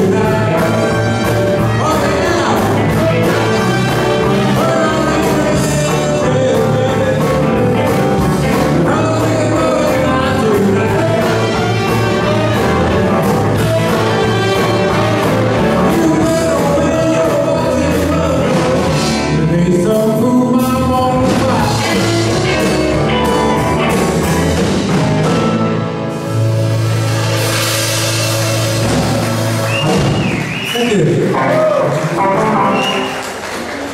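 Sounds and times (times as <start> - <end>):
drum kit beat: 0.0 - 33.4
electric guitars: 0.0 - 33.9.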